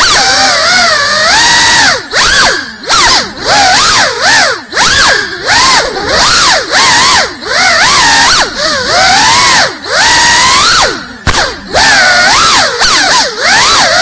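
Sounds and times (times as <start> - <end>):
drone motors and propellers whining: 0.0 - 14.0.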